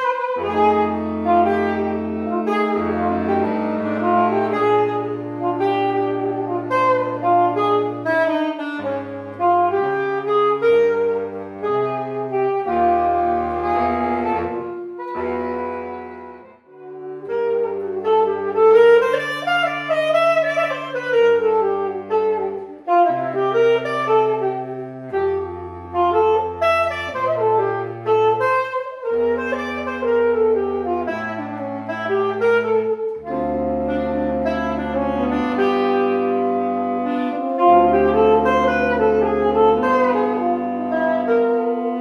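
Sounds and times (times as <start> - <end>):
jazz quartet with saxophone: 0.0 - 42.0.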